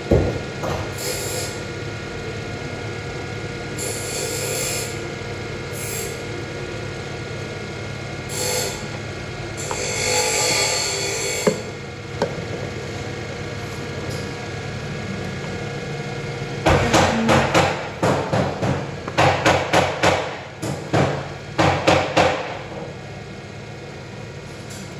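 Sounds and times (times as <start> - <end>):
workshop machine humming: 0.0 - 24.9.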